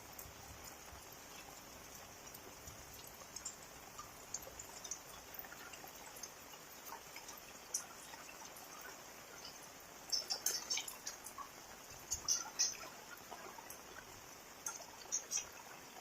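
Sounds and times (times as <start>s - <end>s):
drips of water drops: 0.0s - 16.0s
steady rain: 0.0s - 16.0s.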